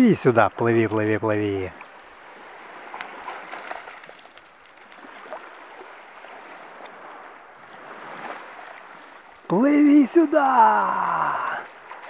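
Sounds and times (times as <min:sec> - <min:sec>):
sea water lapping at shore: 0:00.0 - 0:12.0
faint splashes: 0:01.6 - 0:12.0.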